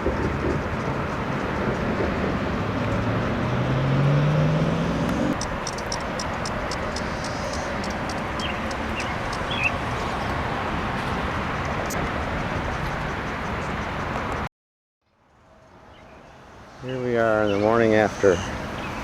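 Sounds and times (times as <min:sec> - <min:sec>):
highway traffic roar: 0:00.0 - 0:14.5, 0:15.1 - 0:19.0.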